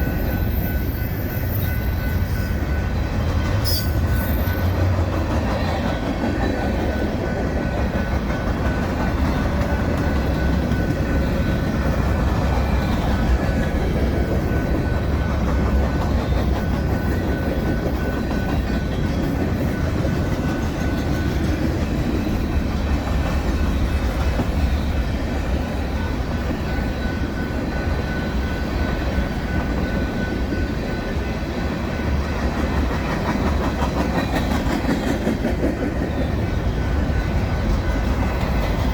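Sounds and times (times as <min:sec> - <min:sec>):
high ringing from wheels: 0:00.0 - 0:05.9, 0:06.7 - 0:38.9
steel wheels clattering on rail: 0:00.0 - 0:38.9.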